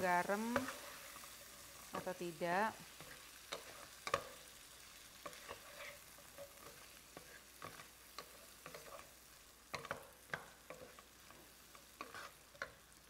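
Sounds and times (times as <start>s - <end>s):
faint sizzling: 0.0s - 13.0s
wooden spatula scraping a pan: 0.2s - 2.1s, 2.8s - 12.8s.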